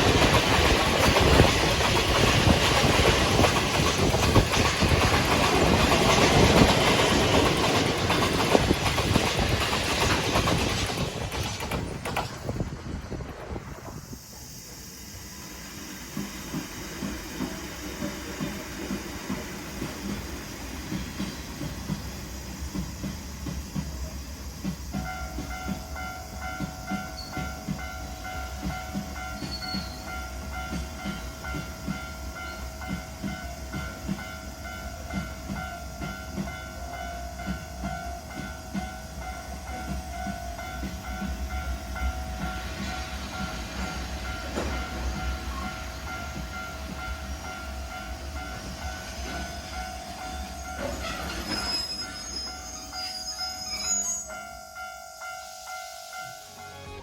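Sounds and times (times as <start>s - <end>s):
train wheels clicking over rail joints: 0.0s - 54.3s.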